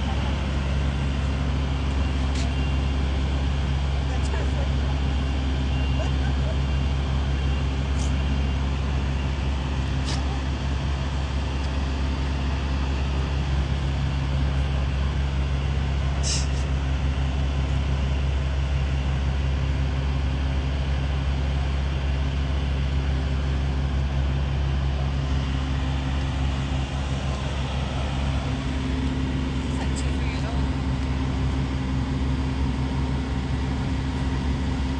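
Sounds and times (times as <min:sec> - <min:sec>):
engine and road rumble: 0:00.0 - 0:34.9.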